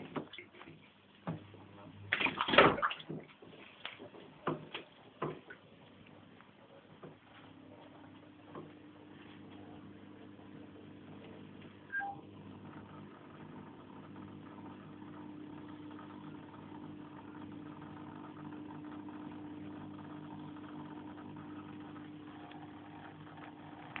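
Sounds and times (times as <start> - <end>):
filter pump humming: 0.0 - 24.0.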